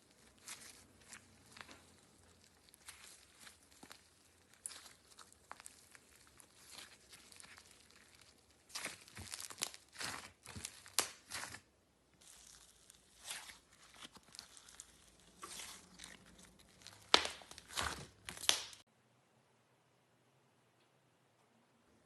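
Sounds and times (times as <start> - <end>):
slime crackling and popping: 0.0 - 18.9.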